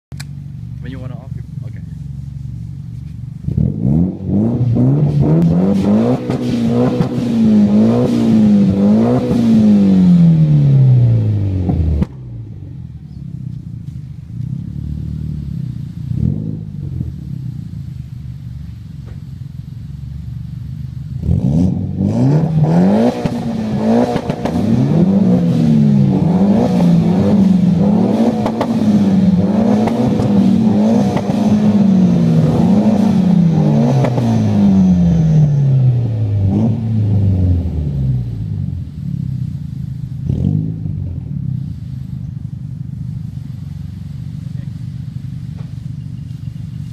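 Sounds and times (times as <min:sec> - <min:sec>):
car engine revving and idling: 0:00.1 - 0:46.9.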